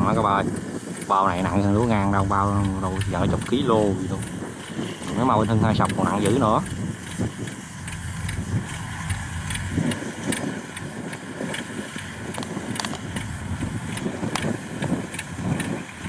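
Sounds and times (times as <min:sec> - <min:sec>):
farm machinery engine rumbling: 0:00.0 - 0:16.0.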